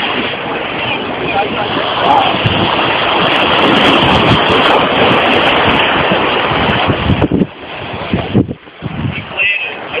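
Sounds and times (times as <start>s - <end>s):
river rushing over rocks: 0.0s - 10.0s
wind buffeting microphone: 0.0s - 10.0s.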